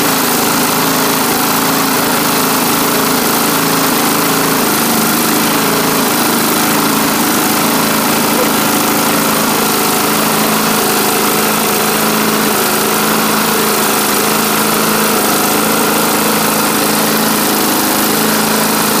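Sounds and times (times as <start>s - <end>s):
lawn tractor engine running: 0.0s - 19.0s.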